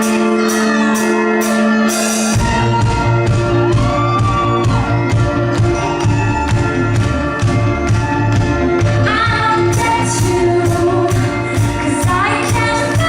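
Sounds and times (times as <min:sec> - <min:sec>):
live band music: 0:00.0 - 0:13.0
deep pulsing bass: 0:02.4 - 0:13.0.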